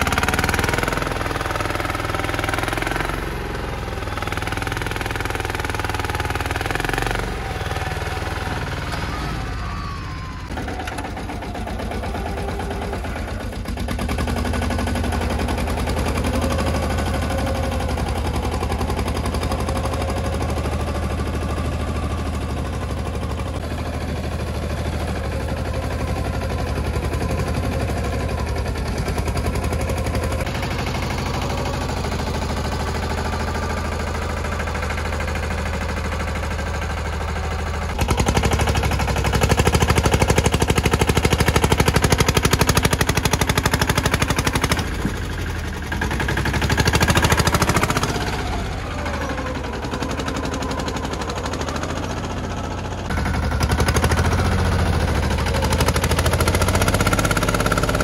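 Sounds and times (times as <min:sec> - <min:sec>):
diesel tractor engine chugging: 0:00.0 - 0:58.0.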